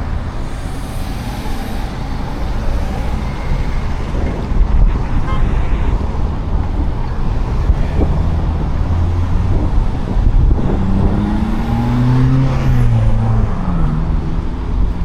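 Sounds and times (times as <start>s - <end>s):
road traffic rumbling: 0.0s - 15.0s
vehicle engine passing: 0.0s - 15.0s.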